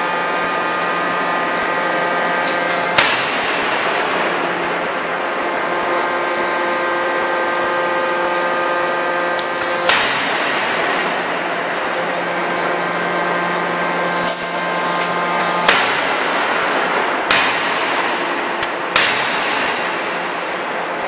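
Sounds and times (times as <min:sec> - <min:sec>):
forging hammer blows: 0:00.0 - 0:21.0
machine hum and hiss: 0:00.0 - 0:21.0.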